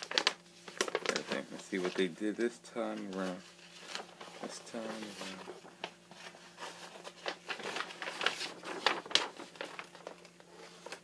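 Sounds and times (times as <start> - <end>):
paper poster crinkling and rustling: 0.0 - 11.0.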